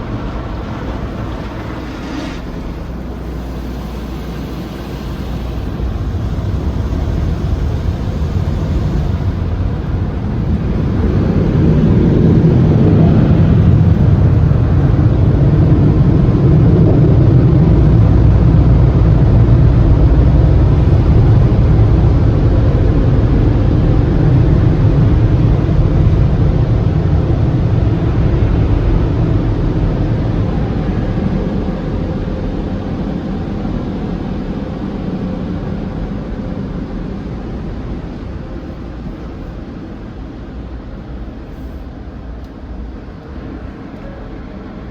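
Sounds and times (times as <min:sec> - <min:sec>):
car wash equipment rushing: 0:00.0 - 0:44.9.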